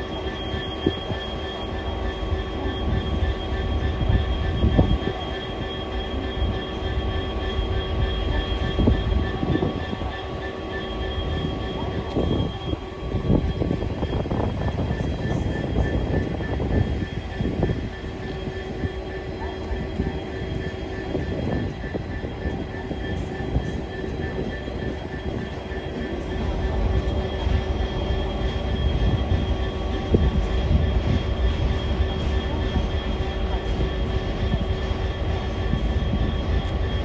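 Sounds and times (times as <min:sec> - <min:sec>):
steady whining tones: 0:00.0 - 0:37.0
train rumbling past: 0:00.0 - 0:37.0.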